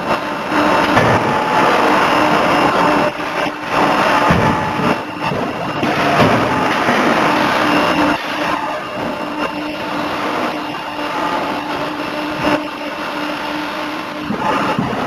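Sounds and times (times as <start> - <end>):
industrial machinery hum: 0.0 - 15.0.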